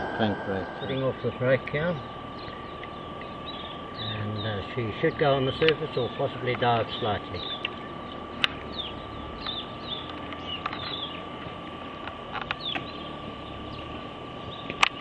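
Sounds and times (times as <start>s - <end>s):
birds chirping: 0.0s - 15.0s
faint steady whine: 0.0s - 15.0s.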